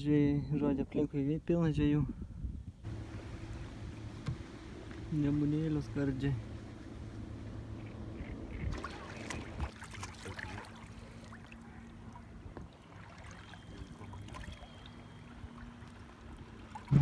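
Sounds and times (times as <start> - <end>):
faint low hum: 2.8 - 17.0
waves lapping against kayak hull: 2.8 - 17.0.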